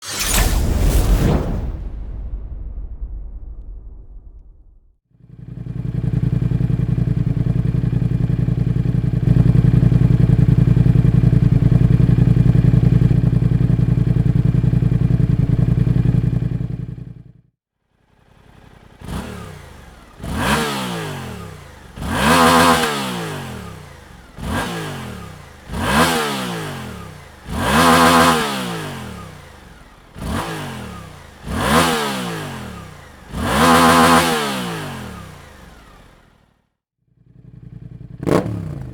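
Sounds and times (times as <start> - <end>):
motorcycle engine revving: 5.2 - 38.9.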